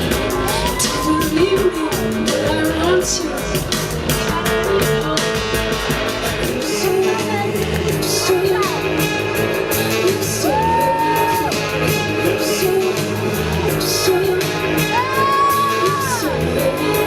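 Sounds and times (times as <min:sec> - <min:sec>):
person singing: 0:00.0 - 0:17.0
pop-rock song: 0:00.0 - 0:17.0
steady drum beat: 0:00.0 - 0:17.0.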